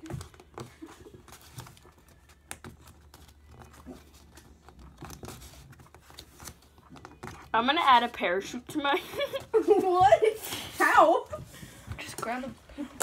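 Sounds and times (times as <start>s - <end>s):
paper rustling and folding: 0.0s - 12.7s.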